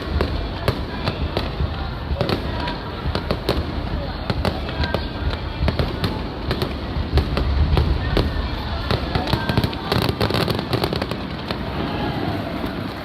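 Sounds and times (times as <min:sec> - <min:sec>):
fireworks booming: 0:00.0 - 0:13.0
fireworks crackling pops: 0:00.0 - 0:13.0.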